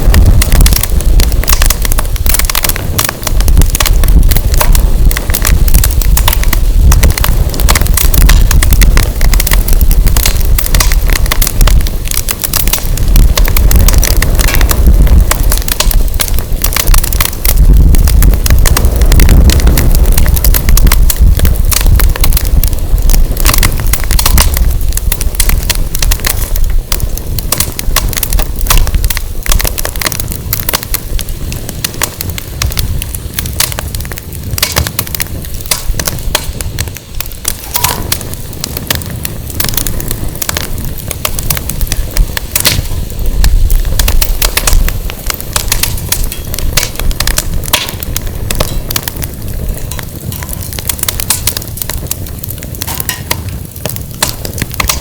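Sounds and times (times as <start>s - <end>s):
firewood crackling and popping: 0.0s - 55.0s
wind buffeting microphone: 0.0s - 55.0s.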